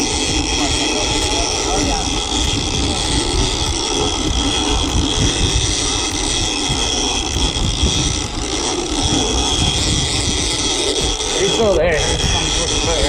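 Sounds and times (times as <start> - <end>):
boat engine rumbling: 0.0 - 13.0
high engine whine: 0.0 - 13.0.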